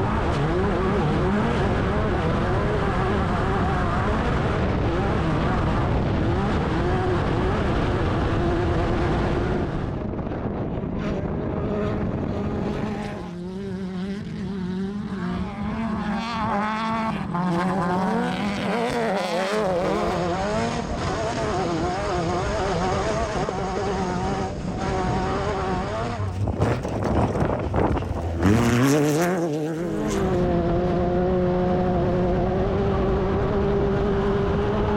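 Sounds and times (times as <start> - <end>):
buggy engine revving: 0.0 - 10.0, 11.5 - 34.9.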